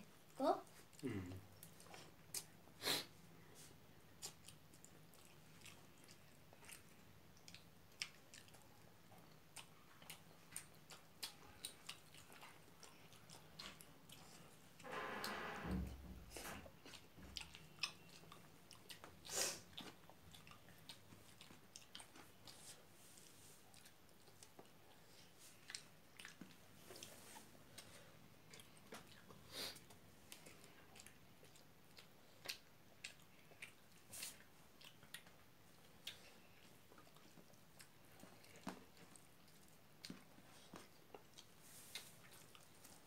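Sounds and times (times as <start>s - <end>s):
close chewing with wet mouth clicks: 1.6s - 2.7s, 4.0s - 14.8s, 16.6s - 43.0s.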